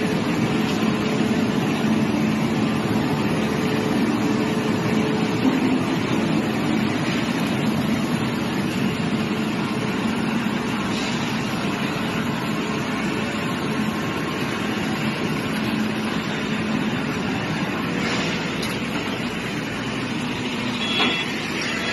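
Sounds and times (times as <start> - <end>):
wood chipper running: 0.0 - 21.9.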